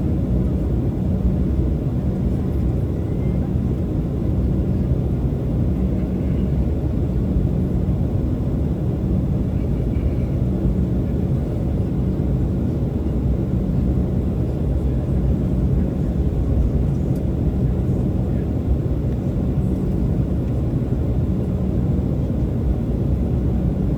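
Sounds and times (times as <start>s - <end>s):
airliner engines rumbling: 0.0s - 23.9s.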